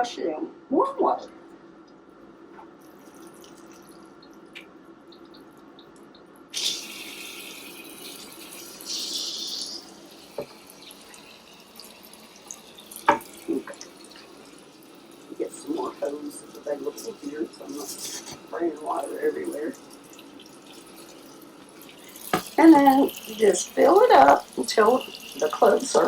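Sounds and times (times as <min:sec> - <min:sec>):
shower hose water running: 0:02.8 - 0:04.2, 0:06.5 - 0:26.0.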